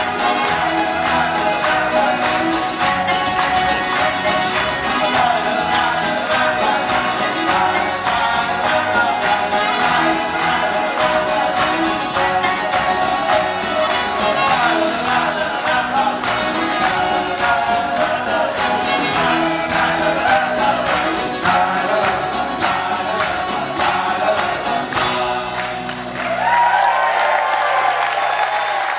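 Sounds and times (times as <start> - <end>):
voices singing together: 0.0 - 26.2
folk-rock band playing: 0.0 - 26.6.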